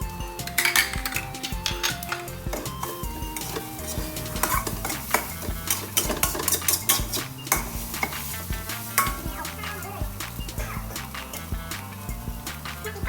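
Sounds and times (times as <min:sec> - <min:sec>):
background melody: 0:00.0 - 0:13.0
food sizzling: 0:00.2 - 0:13.0
spatula scraping a pan: 0:00.4 - 0:12.4.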